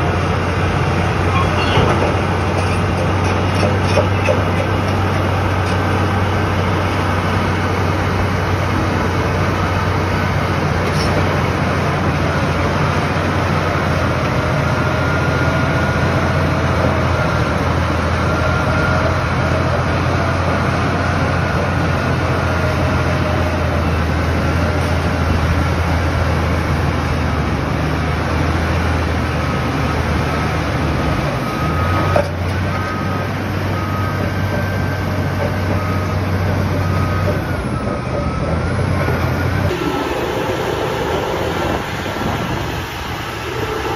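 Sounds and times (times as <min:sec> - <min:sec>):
heavy machinery hum: 0:00.0 - 0:43.9.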